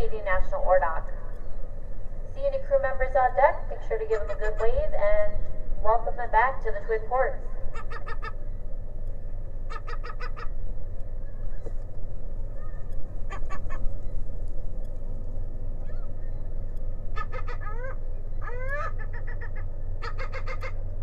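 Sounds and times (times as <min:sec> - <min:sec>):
gulls calling: 0:00.0 - 0:21.0
low steady rumble: 0:00.0 - 0:21.0.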